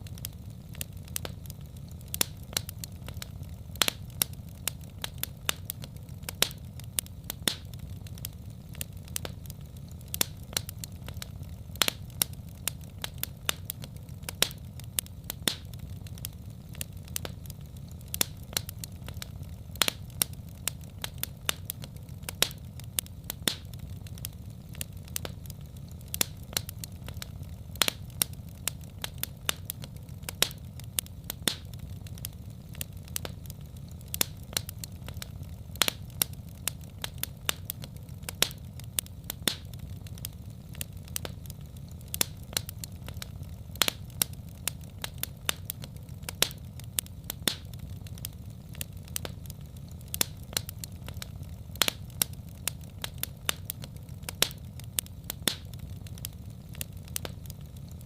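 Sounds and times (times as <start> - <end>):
low steady rumble: 0.0 - 58.0
wood fire crackling: 0.0 - 58.0.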